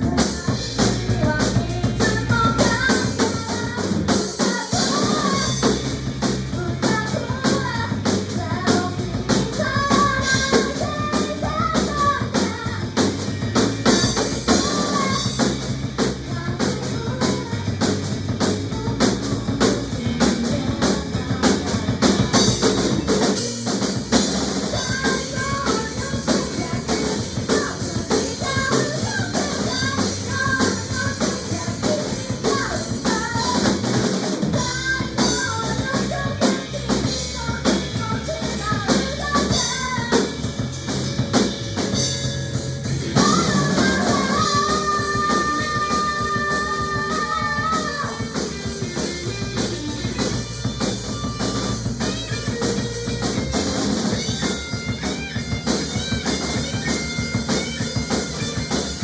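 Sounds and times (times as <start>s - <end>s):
bass: 0.0s - 59.0s
drum kit beat: 0.0s - 59.0s.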